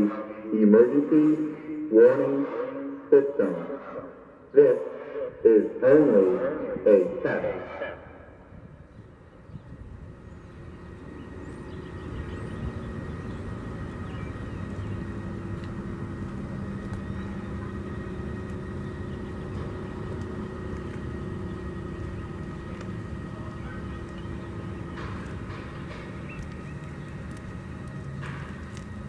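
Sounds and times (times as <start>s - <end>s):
low engine-like rumble: 0.0s - 29.0s.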